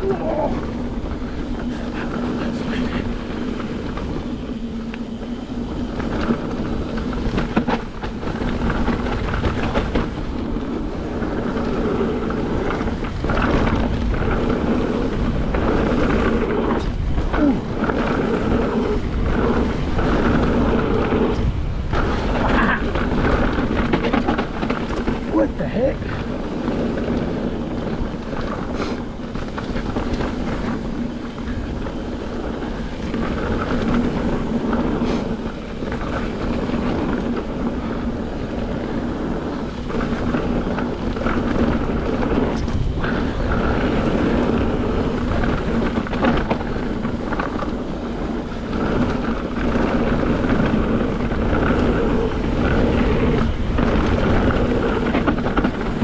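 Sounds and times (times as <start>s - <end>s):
bike knocks and rattles: 0.0s - 56.0s
wind over microphone: 0.0s - 56.0s.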